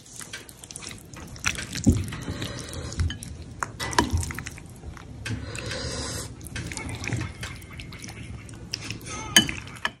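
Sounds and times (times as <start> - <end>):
noodles squishing in a bowl: 0.0 - 5.7, 6.3 - 10.0.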